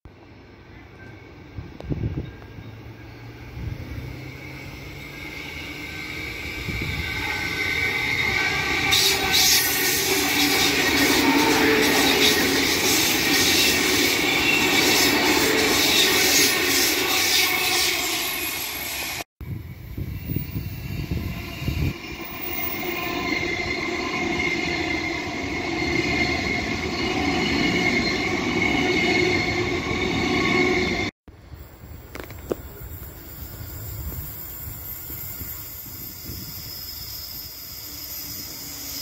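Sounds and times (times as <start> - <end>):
train passing with rail noise: 0.1 - 39.0
train rumbling into station: 0.1 - 39.0.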